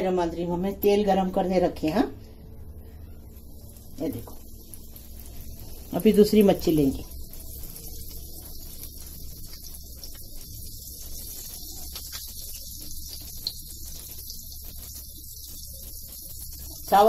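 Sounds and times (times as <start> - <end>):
fish sizzling in hot oil: 2.2 - 17.0.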